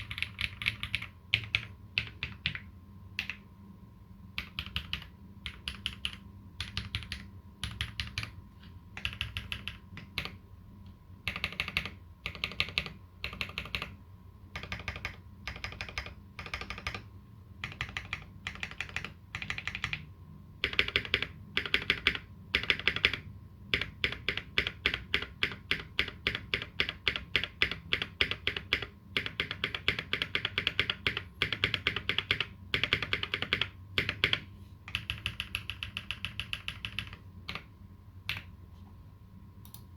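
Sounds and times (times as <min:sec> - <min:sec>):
mechanical keyboard typing: 0:00.0 - 0:03.4, 0:04.4 - 0:08.4, 0:09.0 - 0:10.4, 0:11.3 - 0:14.0, 0:14.6 - 0:37.7, 0:38.3 - 0:38.5.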